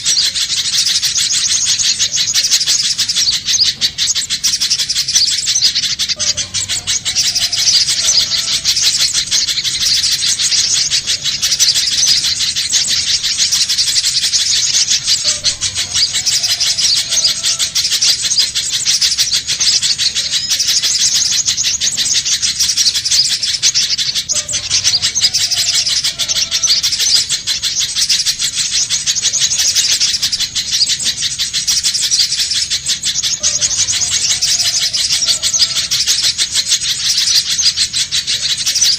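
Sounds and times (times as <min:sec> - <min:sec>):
bird calling high chips: 0:00.0 - 0:38.9.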